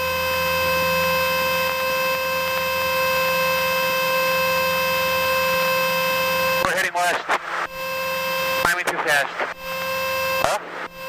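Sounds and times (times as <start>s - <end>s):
stall warning horn tone: 0.0s - 6.8s, 7.6s - 8.8s, 9.5s - 11.0s
aircraft engine at full power: 0.0s - 11.0s.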